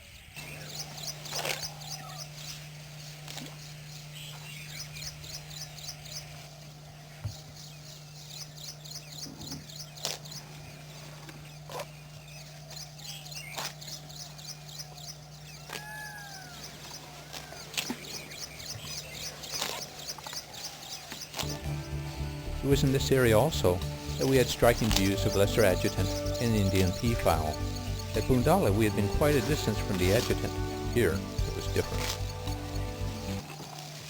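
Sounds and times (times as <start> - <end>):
steady low hum: 0.0 - 33.4
birds chirping: 0.0 - 34.0.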